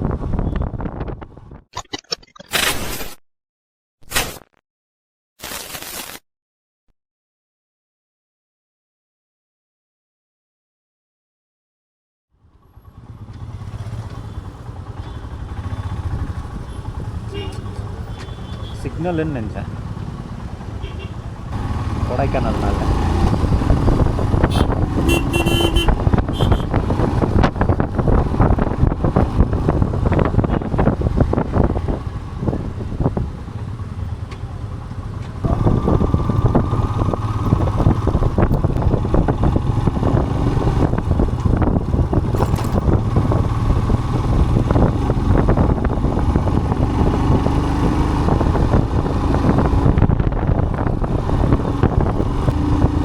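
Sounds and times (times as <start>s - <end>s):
vehicle engine and road noise: 0.0s - 3.0s, 12.3s - 53.0s.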